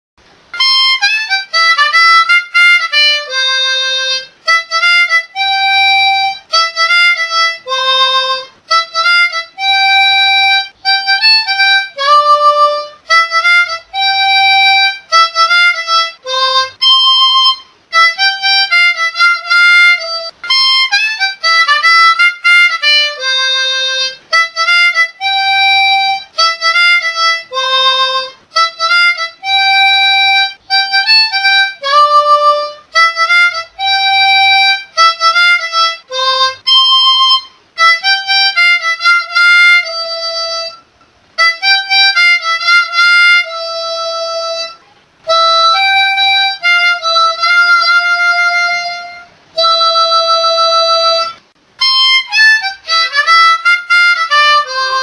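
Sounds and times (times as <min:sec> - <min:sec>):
harmonica melody: 0:00.3 - 0:55.0.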